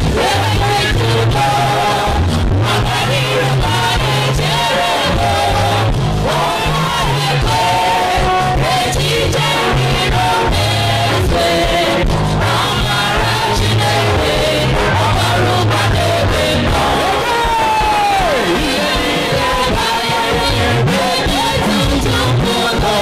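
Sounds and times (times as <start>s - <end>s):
band accompaniment: 0.0s - 23.0s
voices singing a worship song: 0.0s - 23.0s.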